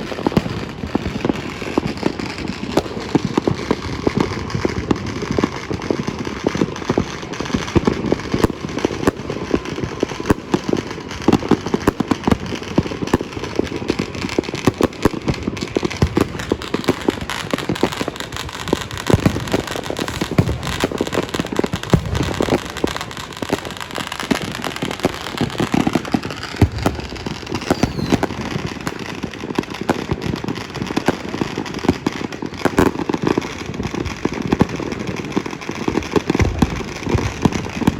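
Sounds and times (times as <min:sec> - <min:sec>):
fireworks and firecrackers crackling: 0:00.0 - 0:37.9.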